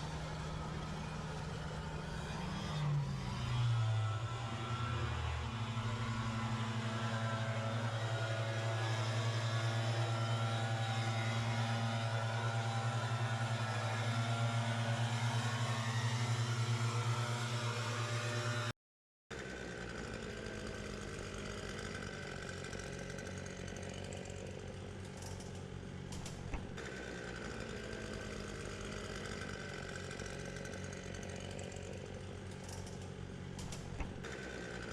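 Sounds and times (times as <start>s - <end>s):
lawn equipment engines running: 0.0s - 18.7s, 19.3s - 34.9s
quiet engine: 0.0s - 18.7s, 19.3s - 34.9s.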